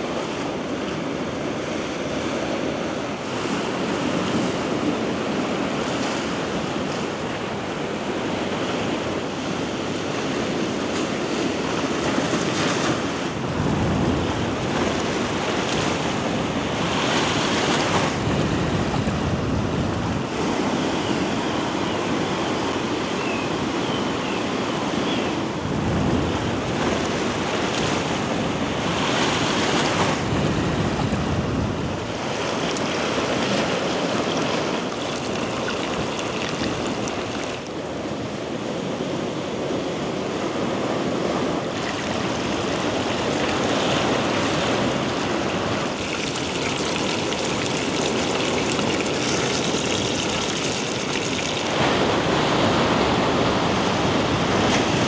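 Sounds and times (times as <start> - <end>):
sea surf washing in: 0.0 - 23.8, 24.6 - 55.0
wind rumbling on microphone: 0.0 - 55.0.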